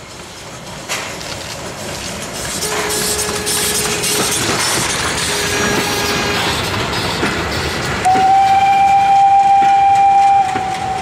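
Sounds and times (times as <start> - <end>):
steam train passing: 0.0 - 11.0.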